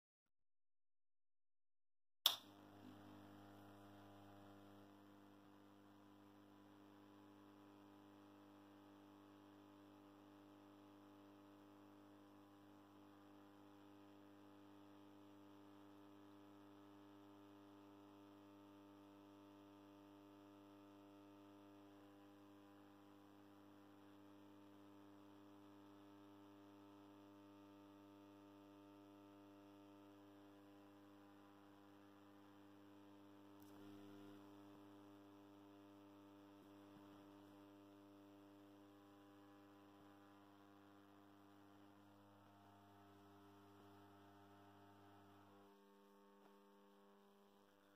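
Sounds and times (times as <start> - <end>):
faint mains hum from street lamp: 2.4 - 47.9.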